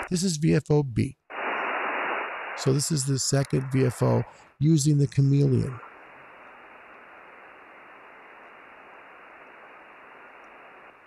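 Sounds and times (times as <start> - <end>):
radio receiver hiss: 0.0 - 0.3, 1.3 - 11.0.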